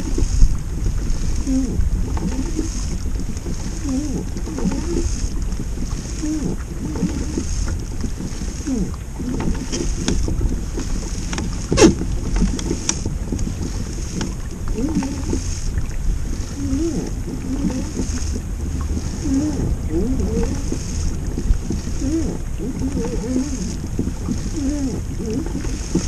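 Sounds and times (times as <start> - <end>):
water sloshing: 0.0 - 26.0
wind buffeting microphone: 0.0 - 26.0.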